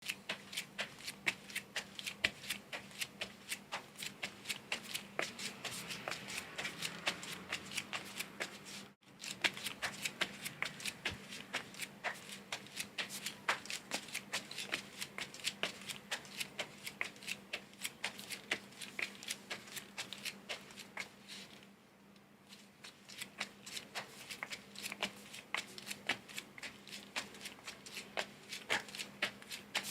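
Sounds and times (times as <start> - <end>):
footsteps in flip-flops: 0.0 - 21.6, 22.5 - 29.9.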